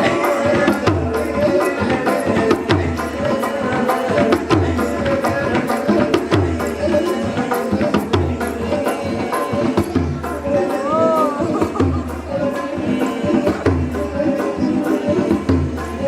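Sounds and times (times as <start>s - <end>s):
hand drums: 0.0s - 16.0s.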